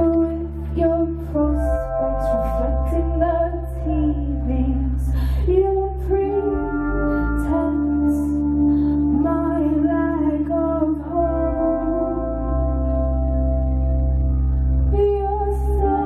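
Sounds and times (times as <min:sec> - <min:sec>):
sustained keyboard chords: 0:00.0 - 0:16.0.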